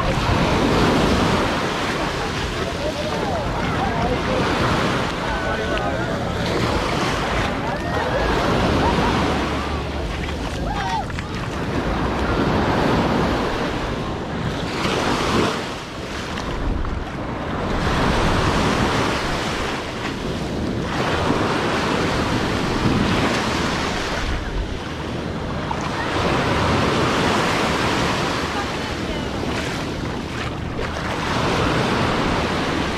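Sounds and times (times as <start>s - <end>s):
ocean surf washing in: 0.0s - 32.9s.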